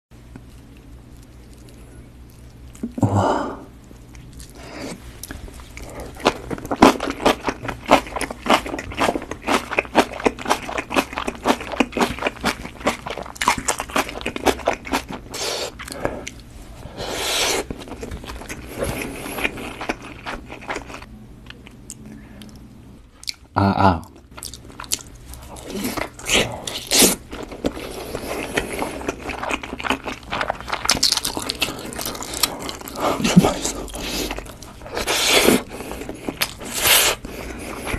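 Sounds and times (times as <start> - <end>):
crunching and chewing: 0.3 - 3.0, 3.9 - 16.6, 17.2 - 22.6, 24.2 - 37.9.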